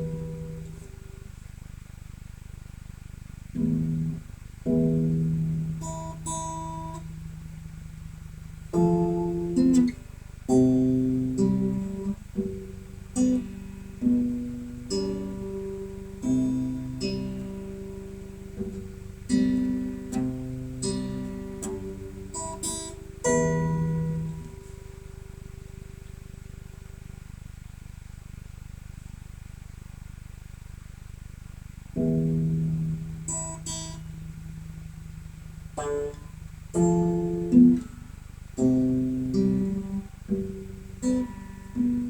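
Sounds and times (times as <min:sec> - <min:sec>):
acoustic guitar chords ringing: 0:00.0 - 0:29.1, 0:30.2 - 0:42.0.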